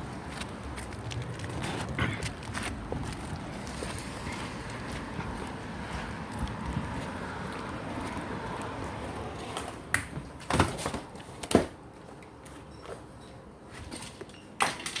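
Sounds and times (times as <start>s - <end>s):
faint background noise: 0.0s - 15.0s.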